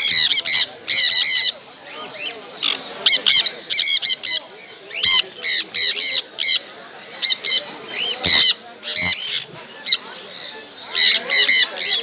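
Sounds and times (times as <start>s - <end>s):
parrots squawking: 0.0s - 1.6s, 2.2s - 12.0s.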